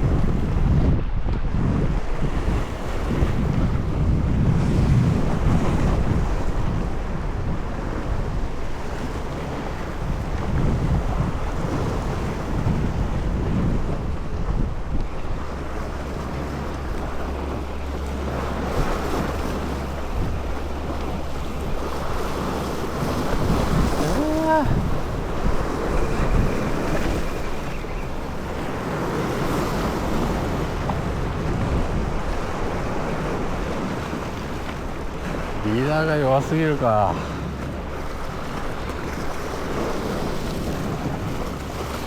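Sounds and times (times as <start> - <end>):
sea waves washing: 0.0 - 42.0
wind buffeting microphone: 0.0 - 42.0.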